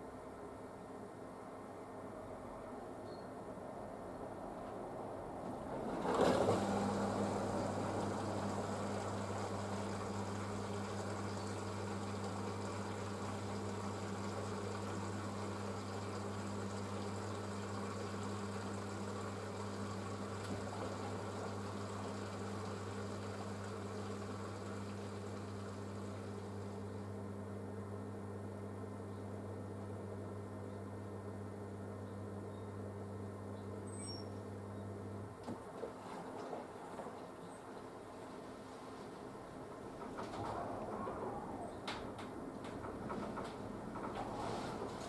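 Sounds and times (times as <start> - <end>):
washing machine drain pump humming: 5.0 - 45.0.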